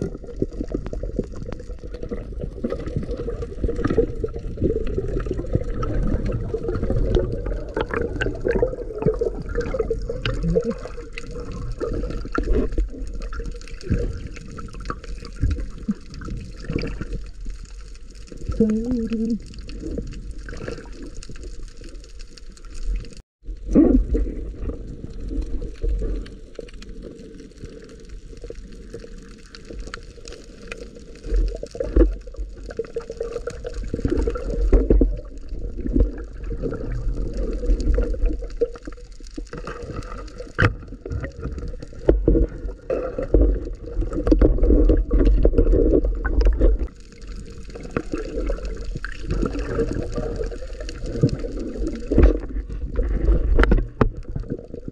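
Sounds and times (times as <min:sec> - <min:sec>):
water sloshing and gurgling: 0:00.0 - 0:54.9.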